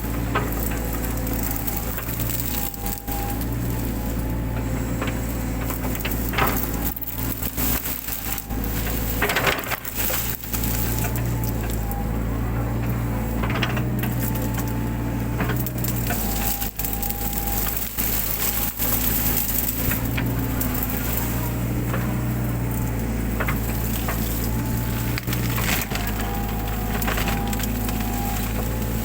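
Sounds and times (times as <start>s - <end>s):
branches cracking and snapping: 0.0s - 29.0s
excavator engine running under load: 0.0s - 29.0s
hydraulic whine: 0.0s - 29.0s.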